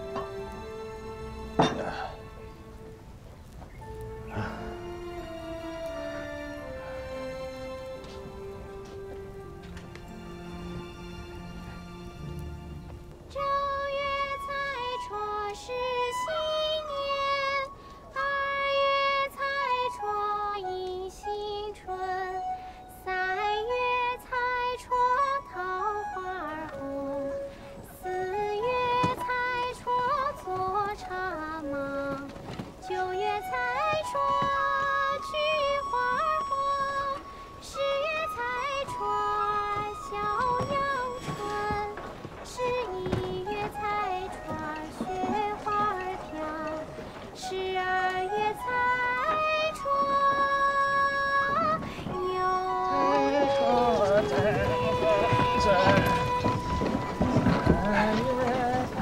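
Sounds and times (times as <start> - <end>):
woman singing slow melody: 3.8 - 9.3, 13.3 - 59.0.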